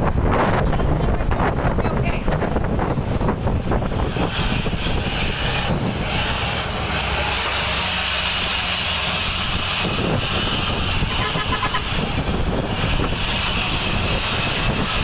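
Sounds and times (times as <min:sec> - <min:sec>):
truck engine drone: 0:00.0 - 0:15.0
tyre and wind noise hiss: 0:00.0 - 0:15.0.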